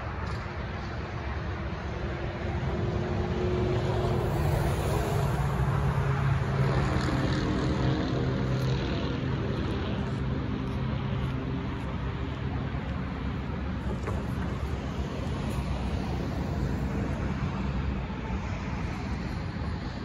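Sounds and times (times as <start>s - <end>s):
cars driving over tracks: 0.0s - 20.0s.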